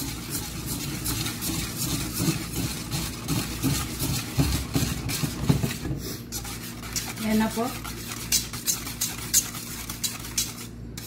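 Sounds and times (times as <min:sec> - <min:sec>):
wire whisk beating in metal pot: 0:00.0 - 0:11.0.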